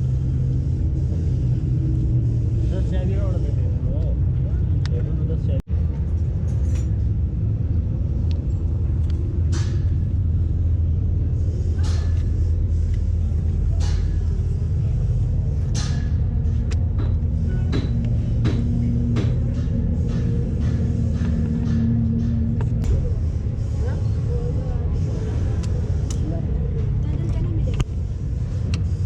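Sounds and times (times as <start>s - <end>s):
low vehicle rumble: 0.0s - 29.0s.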